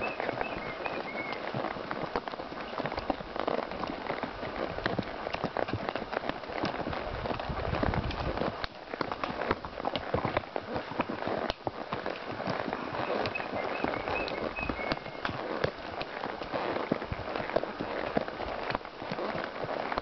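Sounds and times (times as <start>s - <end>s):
horse hooves on dirt and stones: 0.0s - 20.0s.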